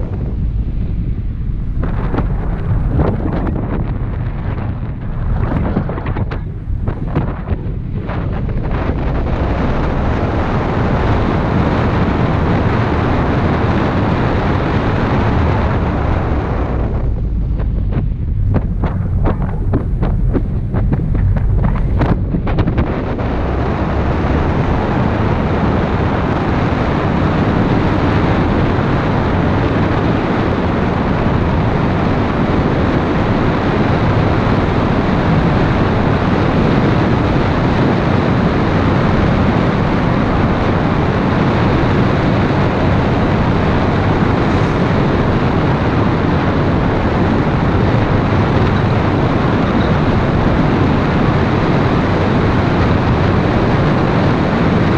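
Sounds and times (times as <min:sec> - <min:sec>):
road noise: 0:00.0 - 0:54.9
wind rushing over microphone: 0:00.0 - 0:54.9.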